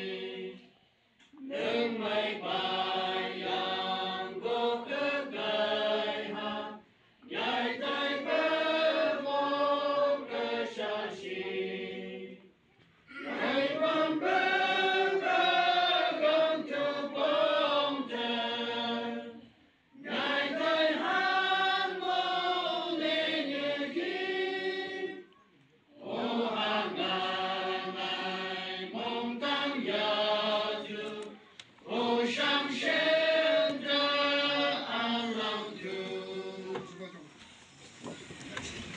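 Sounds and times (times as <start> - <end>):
congregation singing a hymn: 0.0 - 25.3, 25.9 - 37.2.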